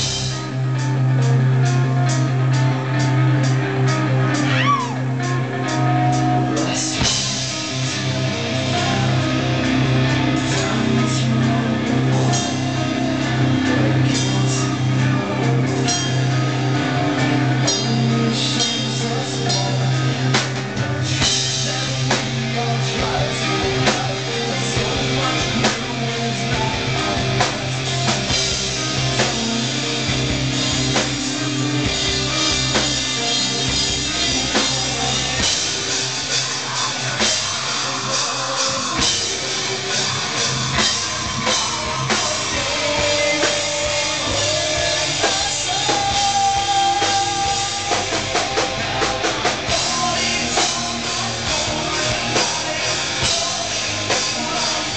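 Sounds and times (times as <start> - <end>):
bass guitar: 0.0 - 54.9
drum kit: 0.0 - 54.9
electric guitars: 0.0 - 54.9
person singing: 4.1 - 54.9.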